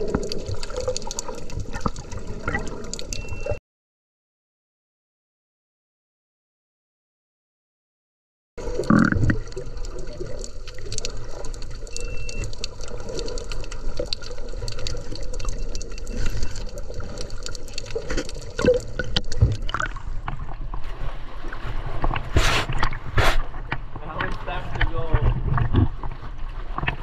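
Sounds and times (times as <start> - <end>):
underwater sloshing and bubbling: 0.0 - 3.6, 8.6 - 27.0.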